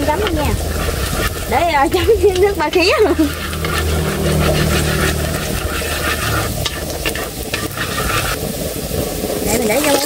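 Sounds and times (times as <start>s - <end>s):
chopsticks scraping metal pan: 0.0s - 8.5s
garlic sizzling in oil: 0.0s - 10.0s.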